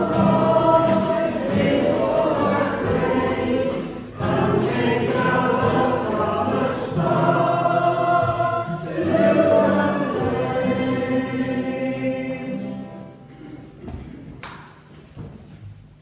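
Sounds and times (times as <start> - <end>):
congregation singing a hymn: 0.0 - 14.1.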